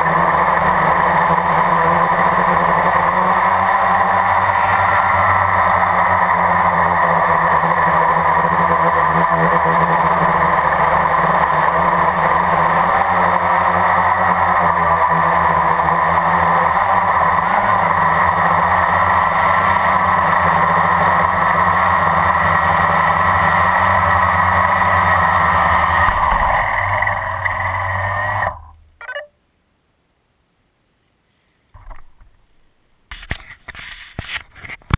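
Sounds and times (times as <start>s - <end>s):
drone propellers buzzing: 0.0s - 29.3s.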